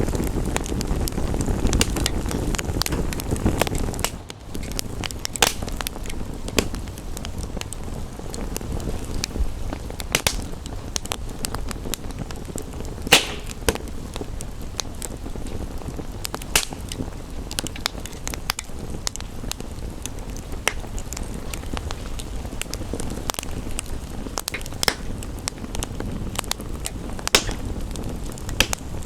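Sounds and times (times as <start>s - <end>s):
low rumble and hiss: 0.0s - 29.0s
wood fire crackling: 0.0s - 29.0s.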